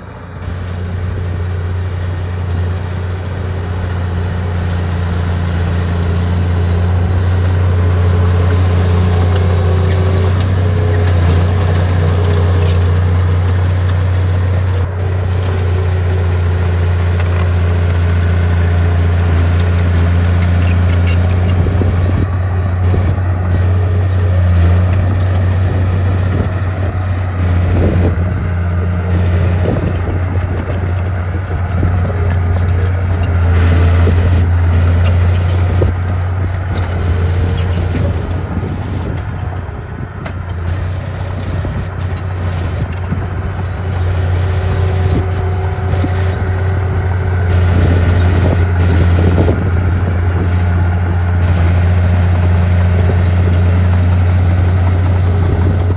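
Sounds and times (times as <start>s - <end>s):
diesel engine humming: 0.0s - 55.9s.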